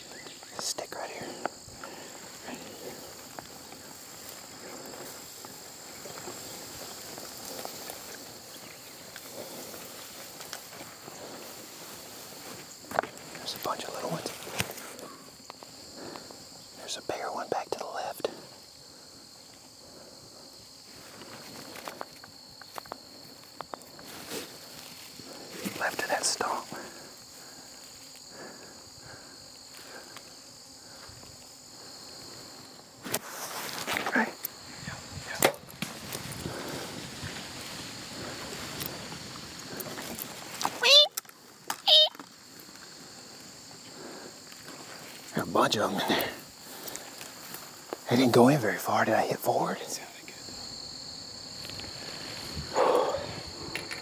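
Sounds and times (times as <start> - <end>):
high-pitched insect drone: 0.0 - 54.0
footsteps through tall grass: 1.2 - 16.8, 18.4 - 25.9, 26.7 - 40.8, 42.2 - 48.1, 50.4 - 53.7.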